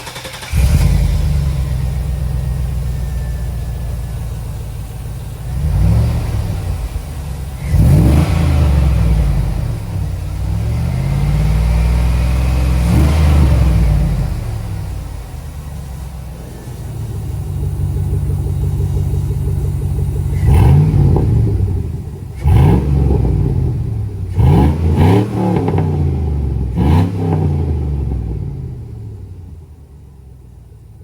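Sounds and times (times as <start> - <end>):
car engine revving: 0.0 - 30.4.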